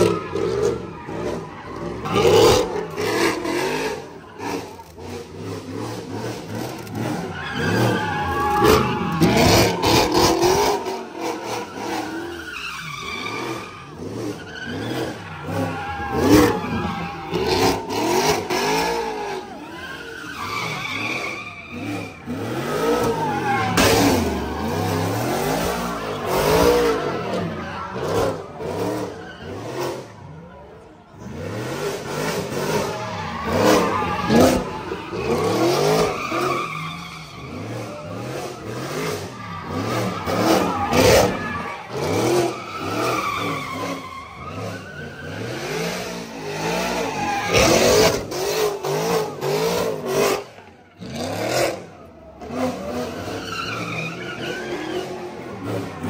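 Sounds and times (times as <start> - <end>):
car engine revving: 0.0 - 56.0
tyres squealing and skidding: 0.0 - 56.0.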